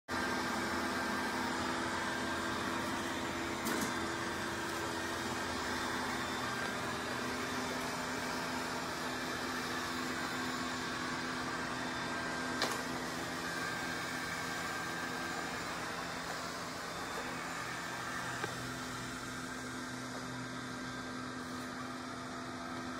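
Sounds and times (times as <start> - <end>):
robot vacuum whirring: 0.2 - 22.9.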